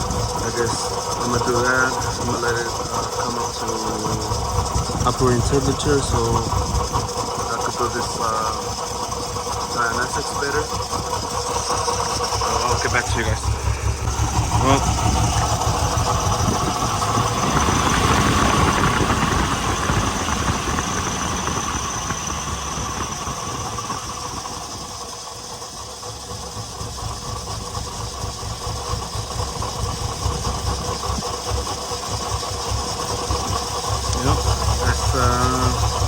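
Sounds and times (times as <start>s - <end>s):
car engine idling with misfire: 0.0s - 36.0s.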